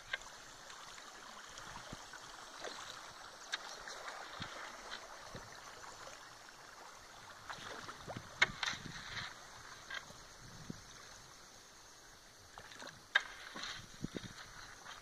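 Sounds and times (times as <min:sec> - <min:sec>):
water gurgling along canoe hull: 0:00.0 - 0:15.0.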